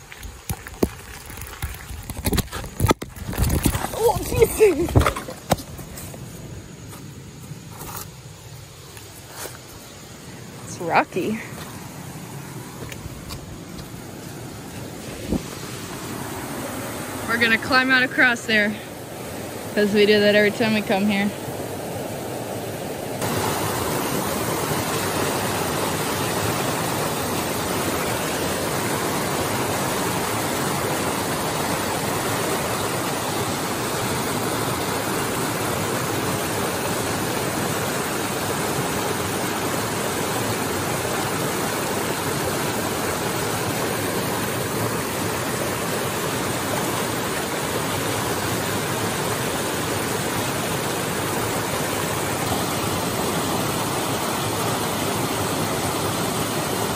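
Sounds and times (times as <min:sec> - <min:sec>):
creek rushing over rocks: 0:00.0 - 0:56.9.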